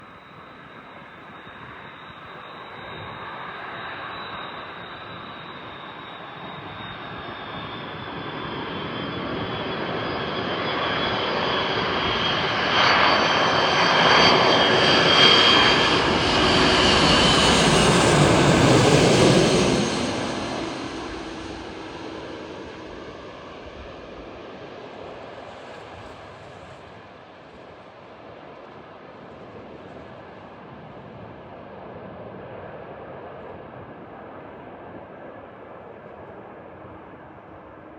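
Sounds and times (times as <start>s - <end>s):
jet airliner passing overhead: 0.0s - 37.9s.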